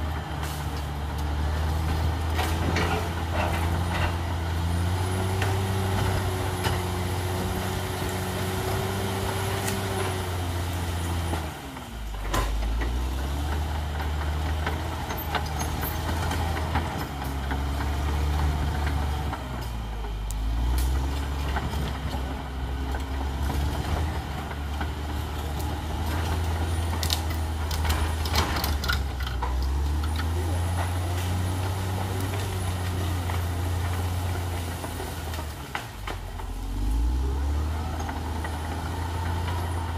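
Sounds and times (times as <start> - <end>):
bulldozer diesel engine running hard: 0.0 - 39.9.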